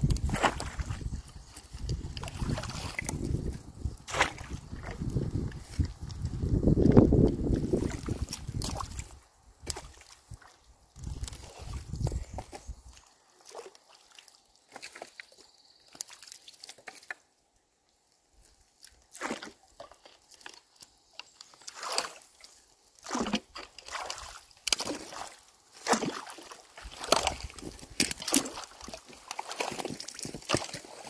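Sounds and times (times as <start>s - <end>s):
water sloshing and splashing: 0.0s - 17.2s, 18.4s - 31.0s.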